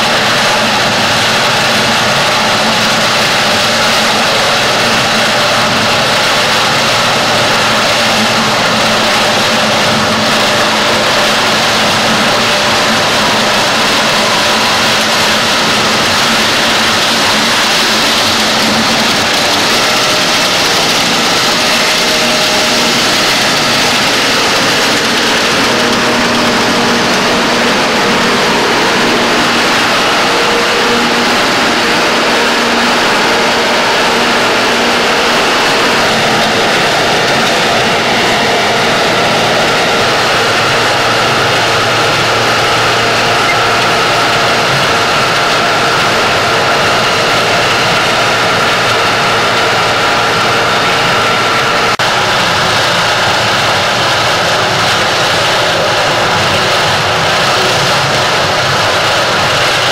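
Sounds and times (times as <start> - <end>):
harvester engine and machinery: 0.0 - 59.9.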